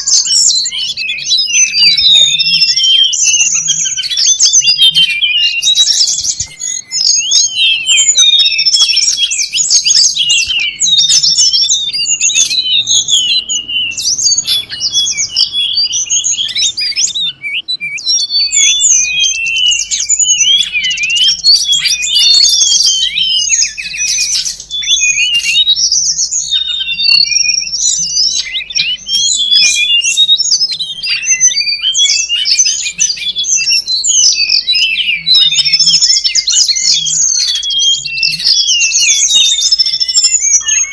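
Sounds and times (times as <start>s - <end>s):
songbird rapid chirps and trills: 0.0s - 40.9s.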